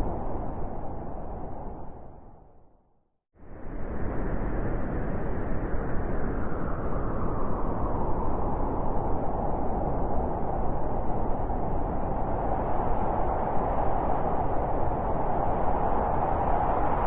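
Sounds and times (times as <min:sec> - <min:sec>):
wind blowing: 0:00.0 - 0:02.6, 0:03.7 - 0:17.0.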